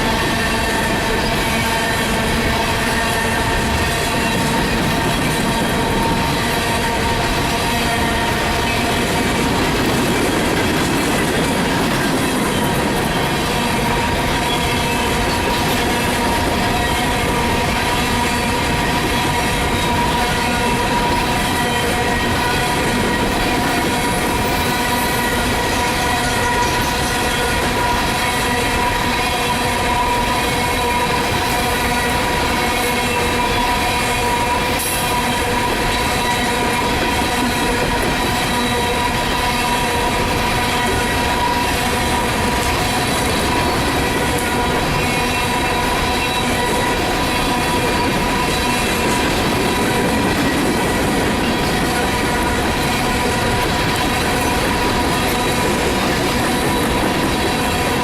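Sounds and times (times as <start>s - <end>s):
train wheels clacking on rails: 0.0s - 58.0s
train wheels squealing: 0.0s - 58.0s.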